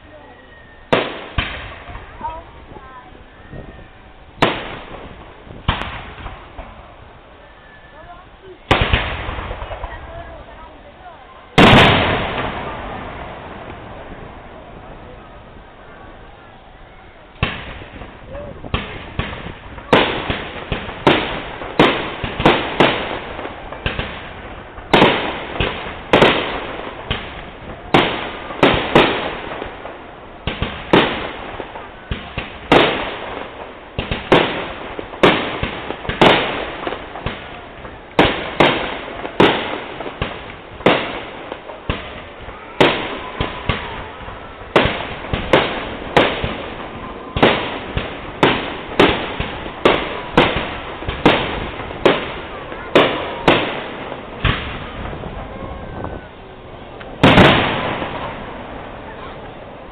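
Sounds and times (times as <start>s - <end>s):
fireworks bursting with bangs: 0.0s - 59.9s.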